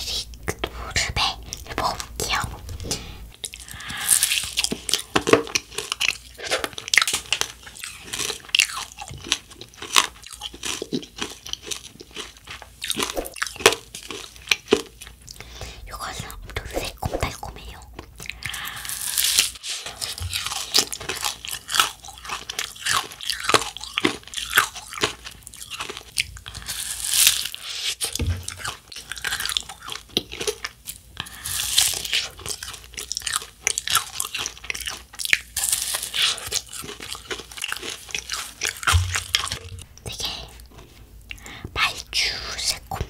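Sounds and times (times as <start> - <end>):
crunchy chewing: 1.5 - 43.0.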